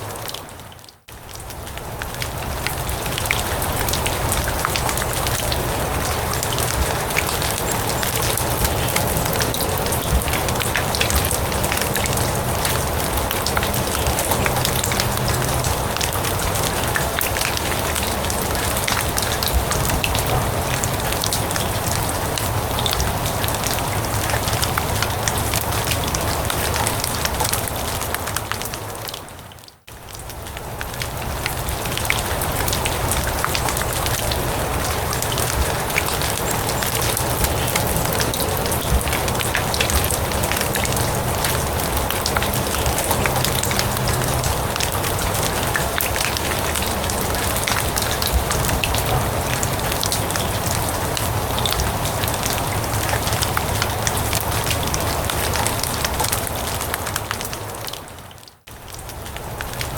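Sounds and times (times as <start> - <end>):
rain falling on grass: 0.0 - 59.9.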